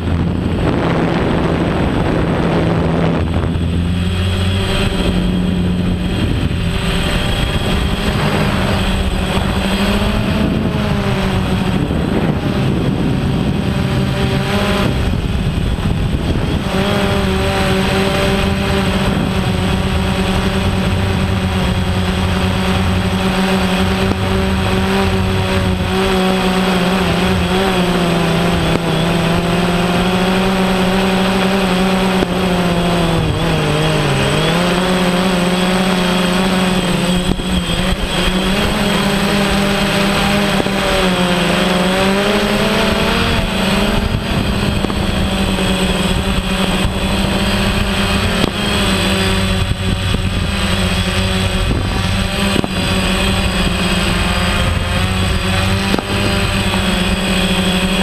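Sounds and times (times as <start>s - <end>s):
drone propellers whirring: 0.0s - 58.0s.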